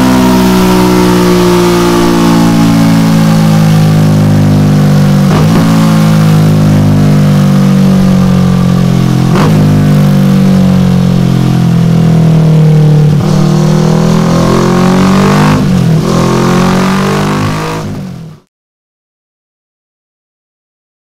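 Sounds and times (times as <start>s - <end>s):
motorcycle engine running loud: 0.0s - 18.5s.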